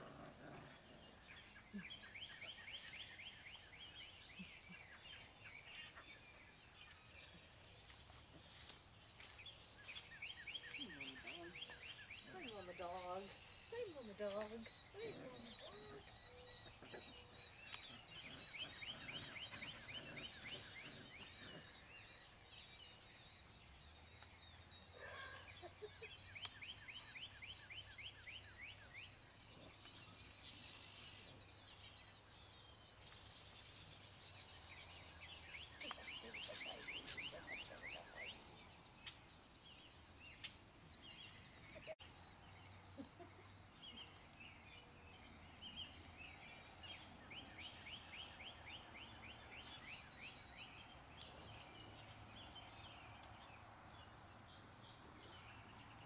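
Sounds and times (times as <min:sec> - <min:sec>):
bird singing a dry trill: 0:08.5 - 0:56.0.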